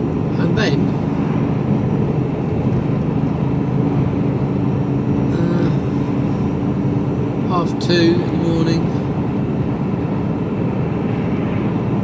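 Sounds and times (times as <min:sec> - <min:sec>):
diesel truck engine hum: 0:00.0 - 0:12.0
road and tyre noise: 0:00.0 - 0:12.0.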